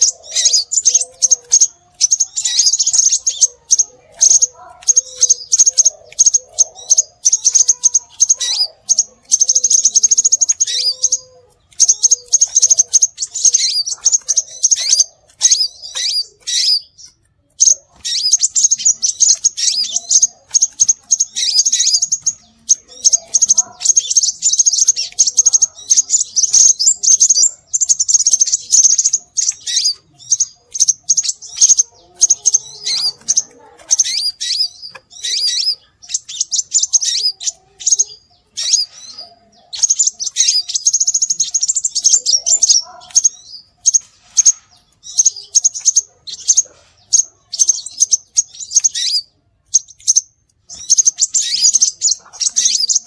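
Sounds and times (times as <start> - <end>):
rapid high bird chirps: 0.0 - 53.0.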